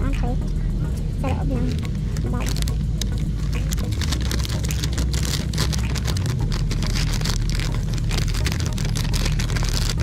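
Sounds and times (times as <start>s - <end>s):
low mechanical hum: 0.0s - 10.0s
plastic sleeve crinkling: 1.7s - 10.0s.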